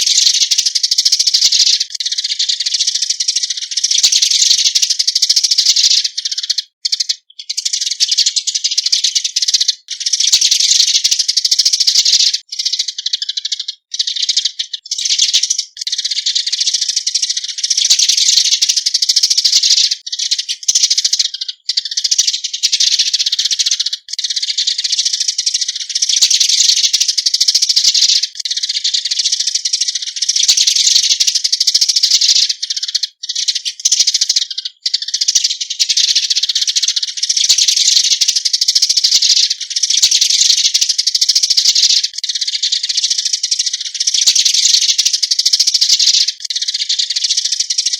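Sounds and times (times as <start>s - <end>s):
sparrows chirping and chattering: 0.0s - 47.9s.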